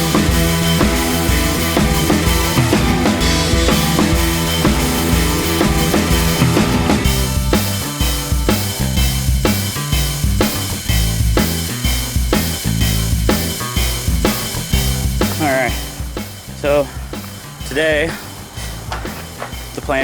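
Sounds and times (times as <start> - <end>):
background music with drum beat: 0.0 - 20.0.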